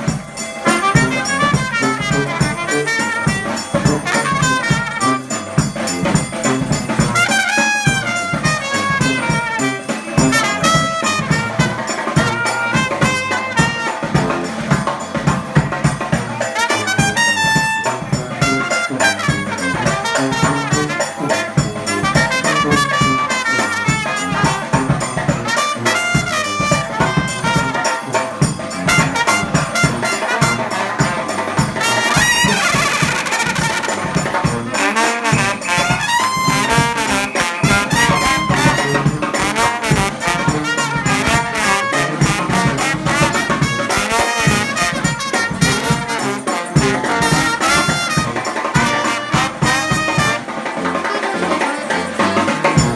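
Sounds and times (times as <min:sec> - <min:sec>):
drums keeping a steady beat: 0:00.0 - 0:52.9
trumpets and trombones: 0:00.0 - 0:52.9
tuba: 0:00.0 - 0:52.9.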